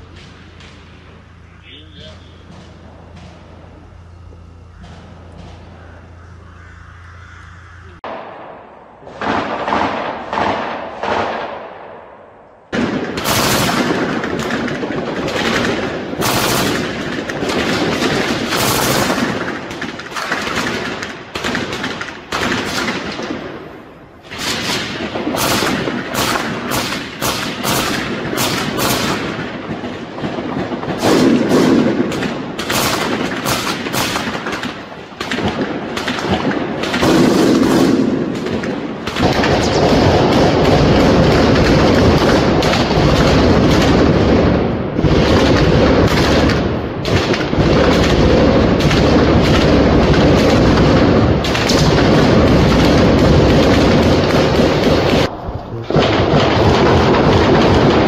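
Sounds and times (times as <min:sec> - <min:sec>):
automatic gunfire: 0:08.1 - 0:12.0, 0:12.7 - 0:23.7, 0:24.3 - 0:55.3, 0:55.9 - 0:58.0.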